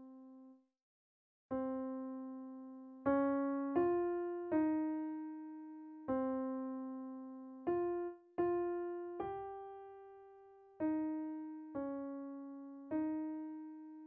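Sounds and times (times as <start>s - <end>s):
slow piano melody: 0.0s - 0.4s, 1.5s - 14.0s.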